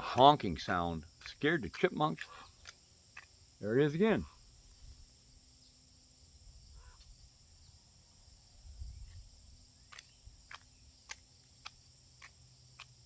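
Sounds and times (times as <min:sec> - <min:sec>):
high trilling of insects: 0:00.0 - 0:13.0.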